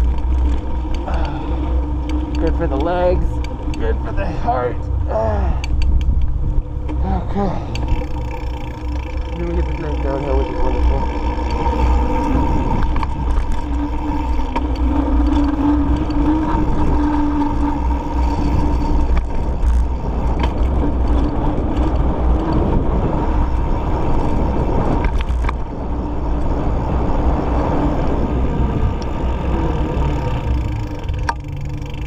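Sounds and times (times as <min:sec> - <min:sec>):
bike clicks and rattles: 0:00.0 - 0:32.0
tyre hum: 0:00.0 - 0:32.0
wind buffeting microphone: 0:00.0 - 0:32.0.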